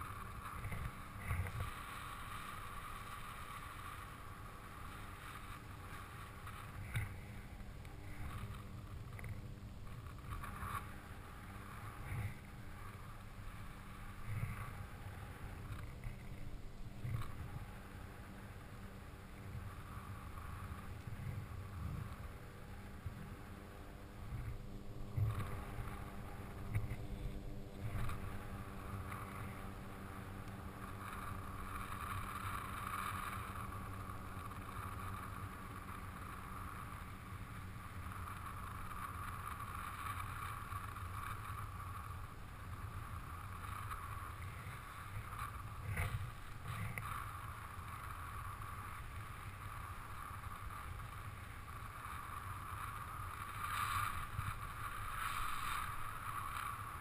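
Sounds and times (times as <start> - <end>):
faint droning hum: 0.0 - 57.0.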